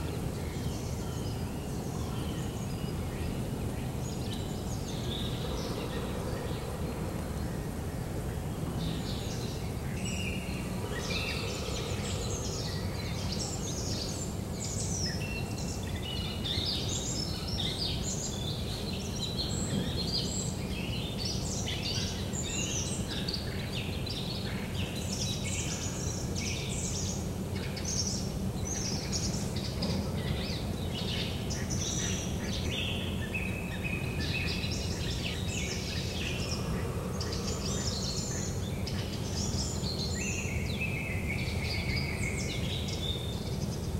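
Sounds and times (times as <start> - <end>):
songbirds chirping and singing: 0.0 - 43.9.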